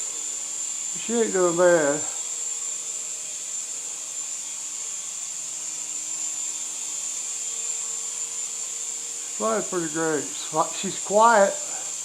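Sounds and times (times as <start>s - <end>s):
toy helicopter high-pitched whine: 0.0s - 12.0s.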